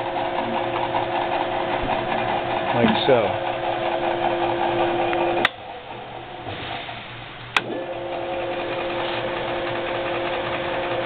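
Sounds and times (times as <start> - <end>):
drill press motor whine: 0.0 - 6.5, 7.6 - 11.0.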